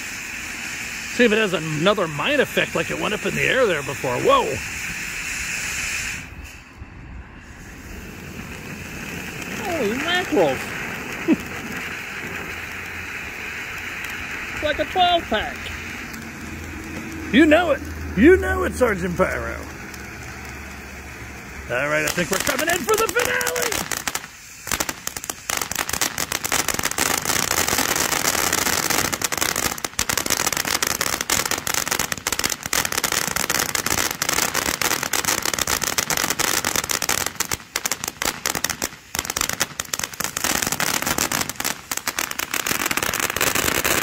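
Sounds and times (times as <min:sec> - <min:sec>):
firework fountain crackling: 0:00.0 - 0:44.0.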